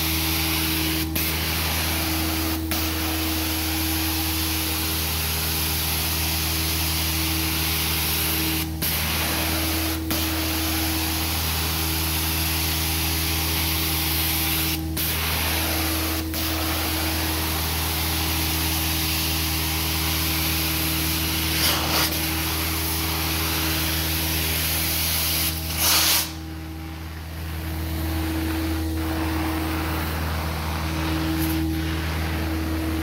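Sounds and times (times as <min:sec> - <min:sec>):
carpet cleaner spray hiss: 0:00.0 - 0:33.0.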